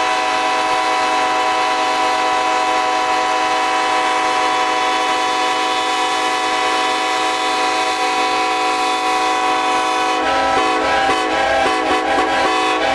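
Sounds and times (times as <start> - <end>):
locomotive air horns: 0.0 - 12.9.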